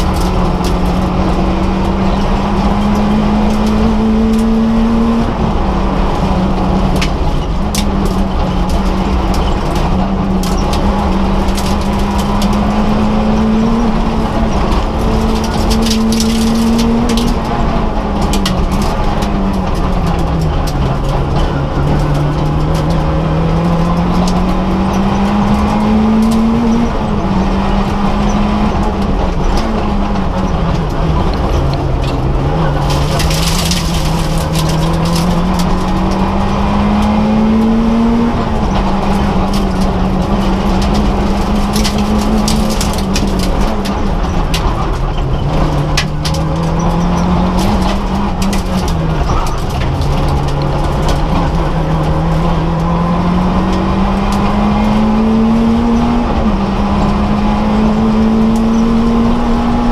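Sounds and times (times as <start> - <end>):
clicks and rattles: 0.0 - 4.6, 6.8 - 27.0, 28.7 - 37.9, 38.5 - 53.1
rally car engine accelerating: 0.0 - 59.9.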